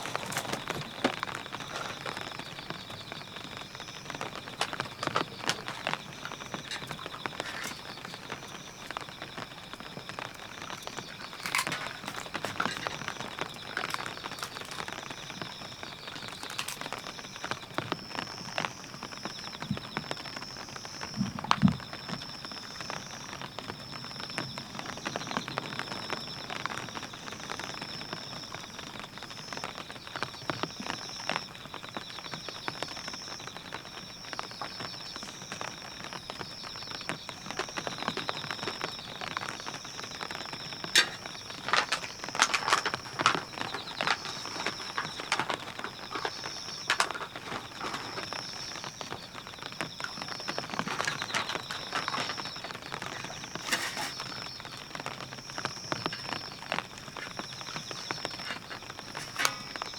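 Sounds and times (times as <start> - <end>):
rain on tent fabric: 0.0 - 59.9.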